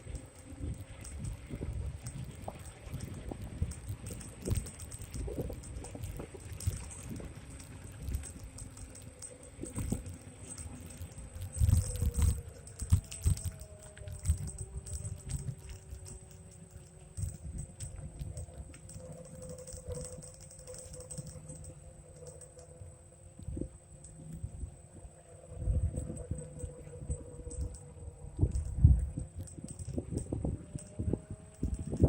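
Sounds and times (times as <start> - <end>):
electric motor whine: 0.0 - 32.0
rapid clicks and rattles: 0.0 - 32.0.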